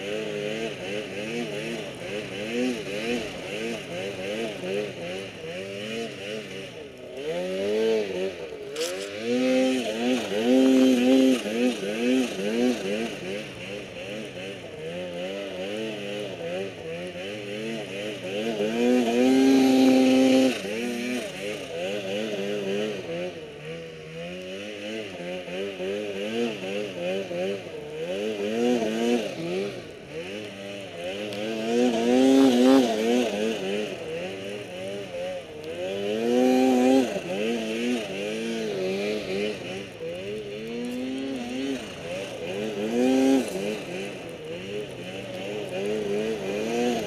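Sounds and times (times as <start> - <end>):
snowmobile engine revving: 0.0 - 47.0.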